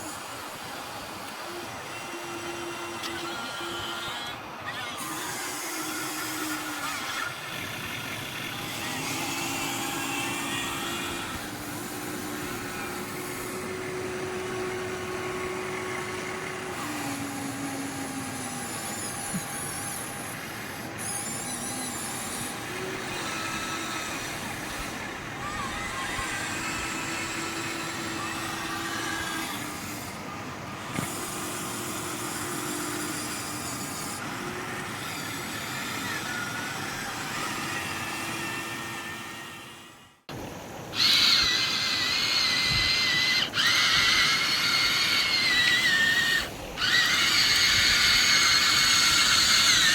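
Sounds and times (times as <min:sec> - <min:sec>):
toy excavator motors whining: 0:00.0 - 0:49.9.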